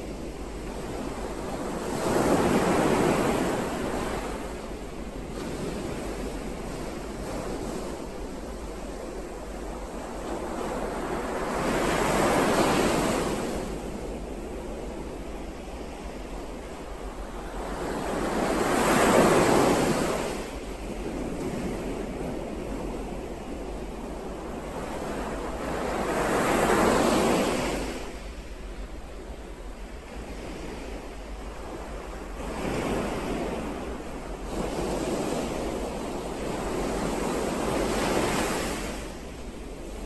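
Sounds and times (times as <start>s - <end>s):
ocean waves breaking: 0.5s - 40.0s.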